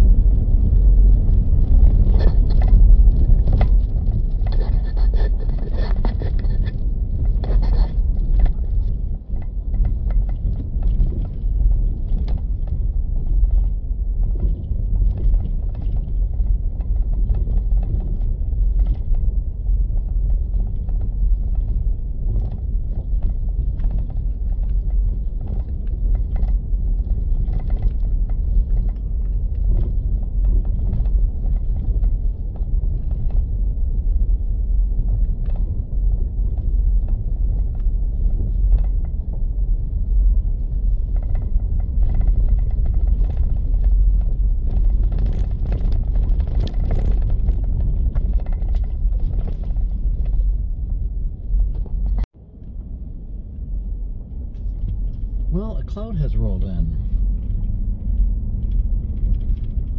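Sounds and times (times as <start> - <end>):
small rattles and knocks: 0.0 - 52.4, 57.0 - 59.9
truck driving low rumble: 0.0 - 59.9.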